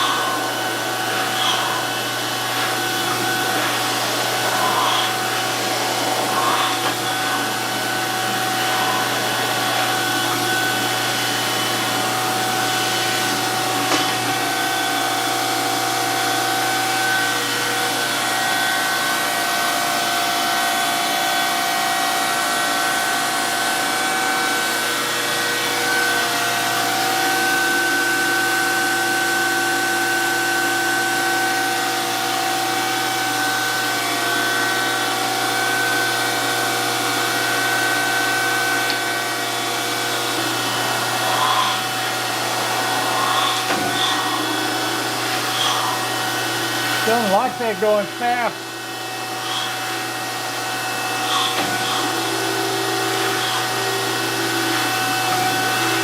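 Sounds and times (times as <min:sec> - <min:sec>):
surface grinder humming: 0:00.0 - 0:56.0.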